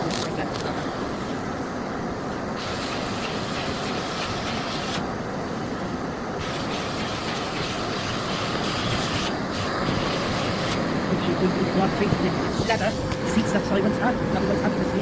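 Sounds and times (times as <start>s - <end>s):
vacuum cleaner running: 2.4s - 15.0s.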